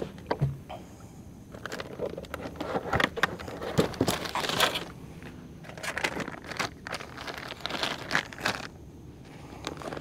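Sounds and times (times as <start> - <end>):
plastic packages crinkling: 1.5 - 10.0.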